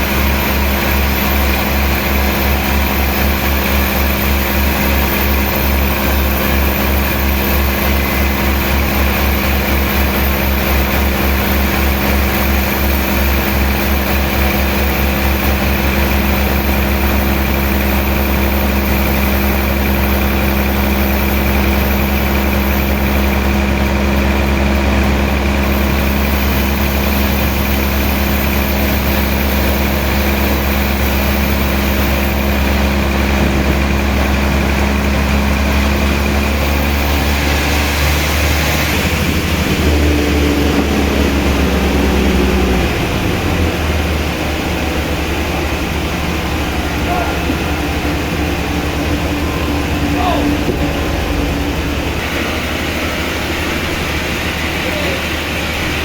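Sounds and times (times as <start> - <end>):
machinery humming: 0.0 - 56.0.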